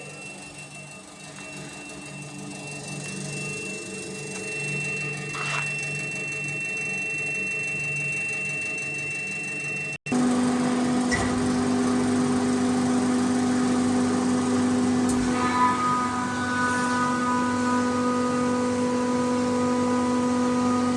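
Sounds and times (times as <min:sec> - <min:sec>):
air compressor hum and whine: 0:00.0 - 0:20.9.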